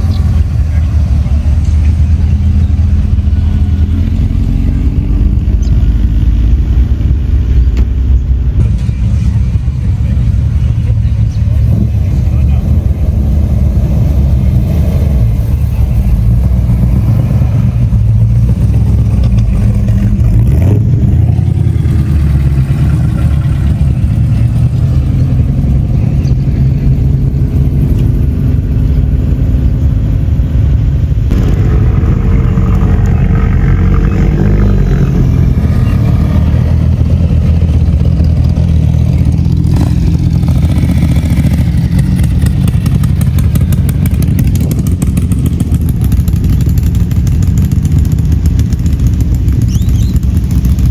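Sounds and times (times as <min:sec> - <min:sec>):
car engines driving past: 0:00.0 - 0:50.9.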